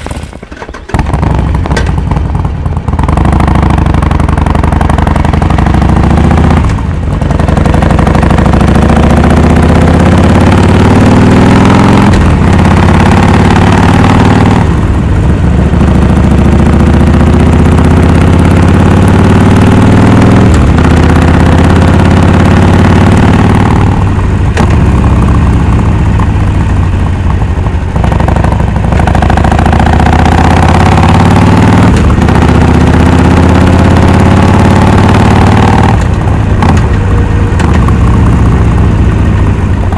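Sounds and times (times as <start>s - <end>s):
motorcycle exhaust shifting gears: 0.0s - 39.9s.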